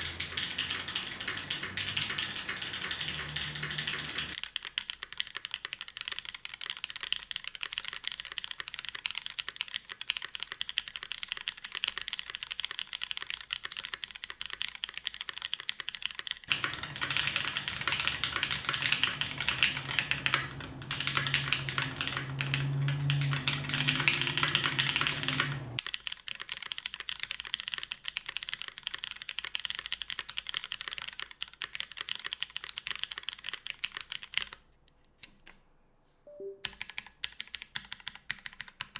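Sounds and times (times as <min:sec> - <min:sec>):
mechanical keyboard typing: 0:00.0 - 0:34.6, 0:36.4 - 0:38.9.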